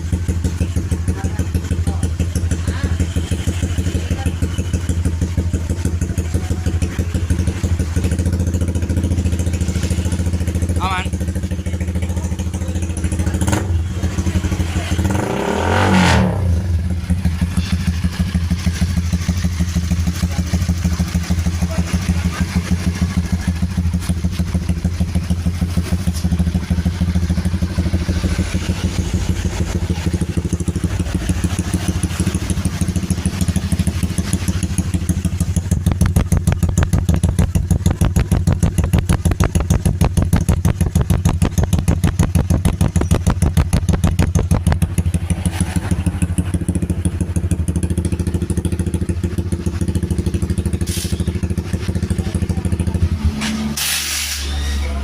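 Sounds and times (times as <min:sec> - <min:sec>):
motorcycle engine revving and idling: 0:00.0 - 0:55.0.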